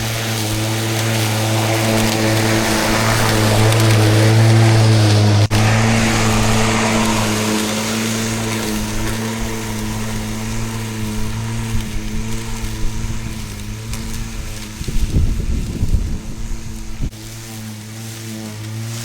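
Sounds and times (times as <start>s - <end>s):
electric lawn mower running: 0.0s - 19.0s.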